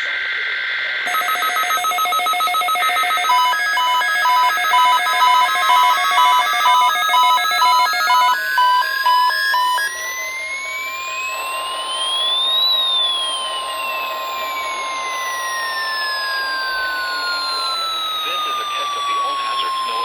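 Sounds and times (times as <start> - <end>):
warbling digital data tone: 1.0 - 20.0
rapid multi-tone beeping: 1.1 - 20.0
tone sliding upward in pitch: 1.1 - 20.0.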